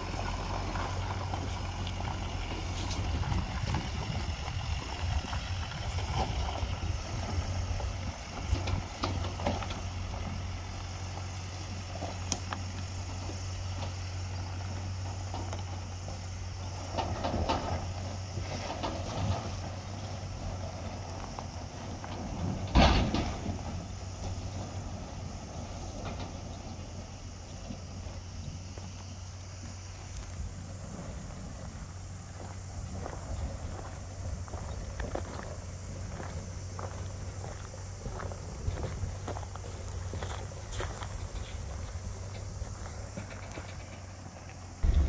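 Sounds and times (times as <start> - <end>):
rustles: 0.0 - 45.0
truck engine idling: 0.0 - 45.0.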